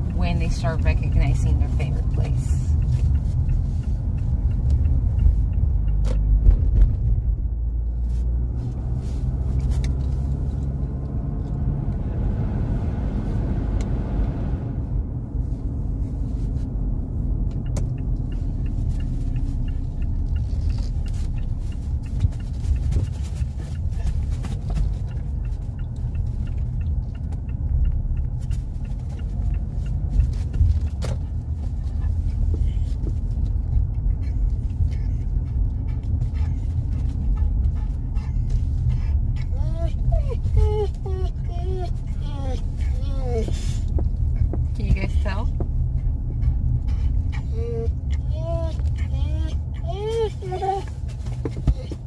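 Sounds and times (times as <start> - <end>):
car cabin road noise: 0.0 - 52.0.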